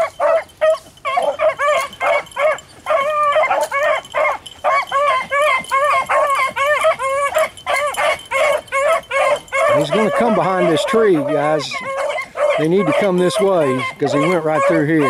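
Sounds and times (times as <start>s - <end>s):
hounds baying: 0.0s - 15.0s.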